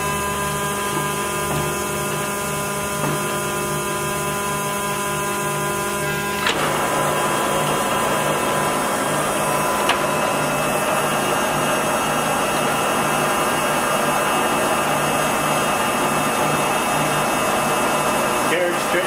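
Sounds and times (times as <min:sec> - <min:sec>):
lathe mechanical drive noise: 0:00.0 - 0:19.0.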